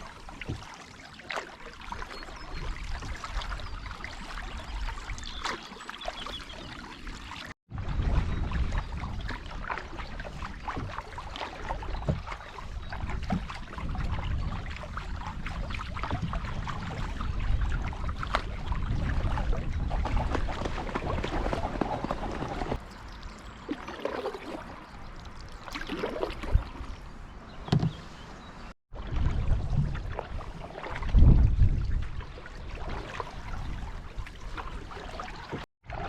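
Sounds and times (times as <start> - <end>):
paddles splashing in water: 0.0 - 36.0.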